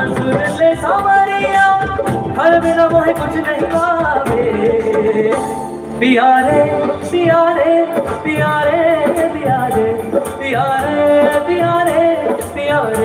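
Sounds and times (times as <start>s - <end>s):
person singing live with band: 0.0s - 13.0s.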